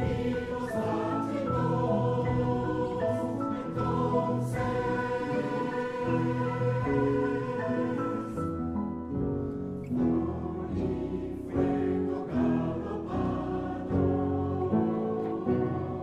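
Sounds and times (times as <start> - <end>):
mixed choir singing: 0.0 - 8.6, 9.9 - 16.0
piano guitar and cello ensemble: 0.0 - 16.0.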